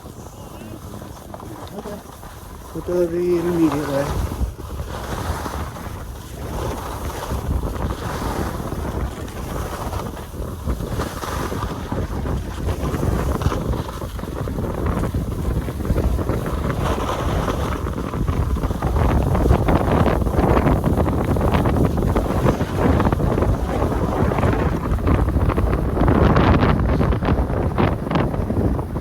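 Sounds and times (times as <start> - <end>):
skis scraping over snow: 0.0 - 29.0
wind on microphone: 0.0 - 29.0.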